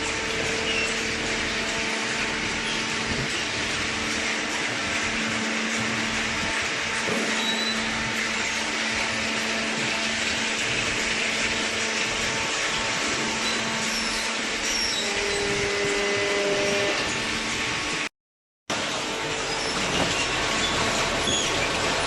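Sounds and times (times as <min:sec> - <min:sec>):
hydraulic baling press running: 0:00.0 - 0:18.1, 0:18.7 - 0:22.0.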